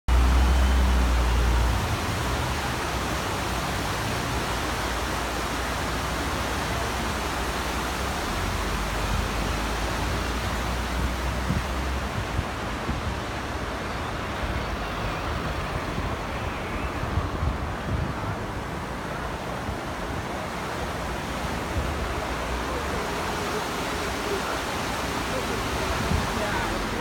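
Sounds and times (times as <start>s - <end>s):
city road traffic: 0.1s - 27.0s.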